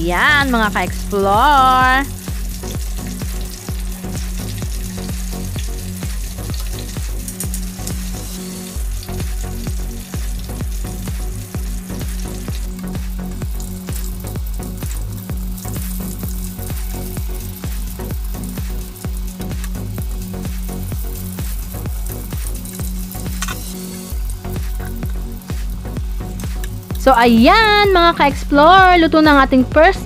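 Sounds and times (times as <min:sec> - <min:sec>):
background music bass line: 0:00.0 - 0:30.0
patties sizzling in hot oil: 0:00.0 - 0:30.0.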